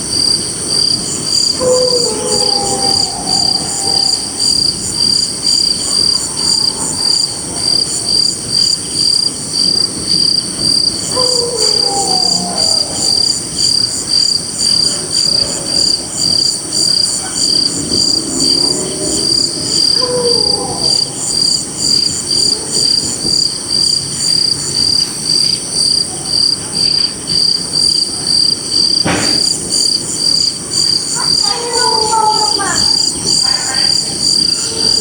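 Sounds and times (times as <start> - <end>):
crickets chirping: 0.0 - 35.0
high insect trill: 0.0 - 35.0
faint falling calls: 0.1 - 23.6, 29.0 - 35.0.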